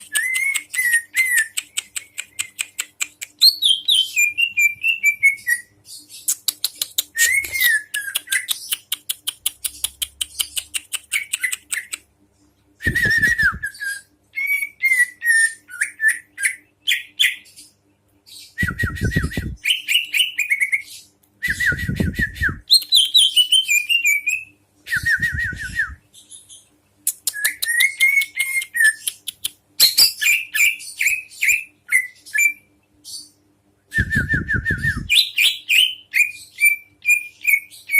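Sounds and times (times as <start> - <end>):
songbird singing: 0.0 - 37.9.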